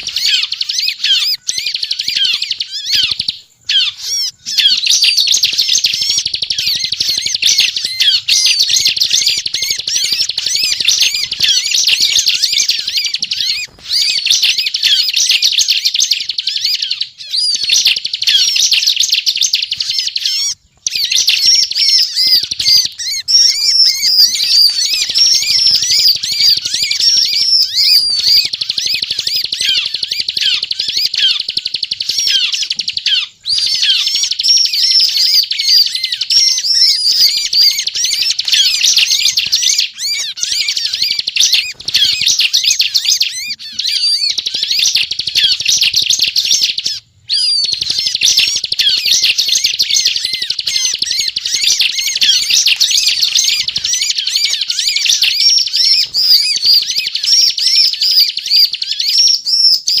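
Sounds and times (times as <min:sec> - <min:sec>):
bird trilling: 0:00.0 - 1:00.0.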